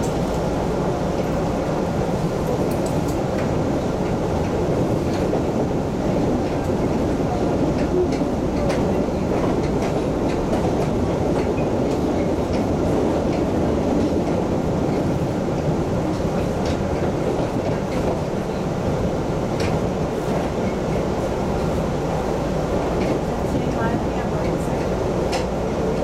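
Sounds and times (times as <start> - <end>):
subway car rumbling: 0.0 - 26.0.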